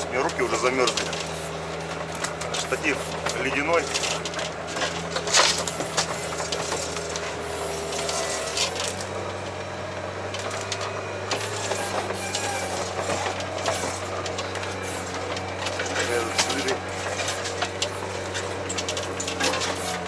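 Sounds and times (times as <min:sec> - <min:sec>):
tracked vehicle engine droning: 0:00.0 - 0:20.0
creaking rattling clicks: 0:00.2 - 0:09.6, 0:10.2 - 0:20.0.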